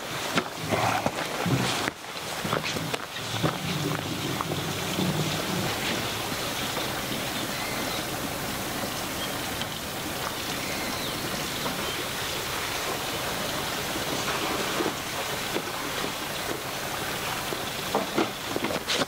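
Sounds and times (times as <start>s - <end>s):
water running from pipe and splashing: 0.0s - 19.0s.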